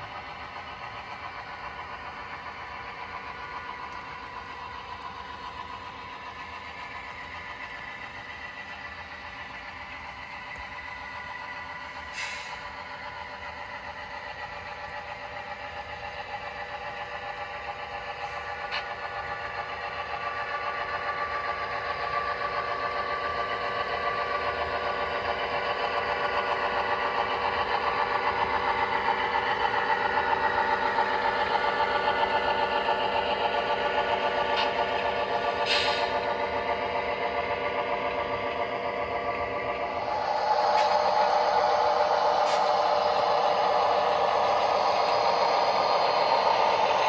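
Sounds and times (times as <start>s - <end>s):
model diesel locomotive engine: 0.0s - 47.0s
wheels whirring on track: 0.0s - 47.0s.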